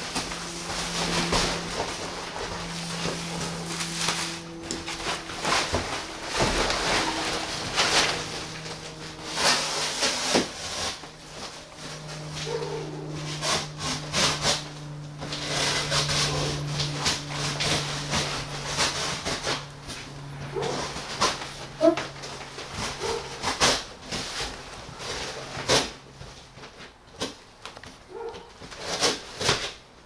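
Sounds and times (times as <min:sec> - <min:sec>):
steady low hum: 0:00.0 - 0:29.5
plastic wrapping crinkling: 0:00.0 - 0:29.9.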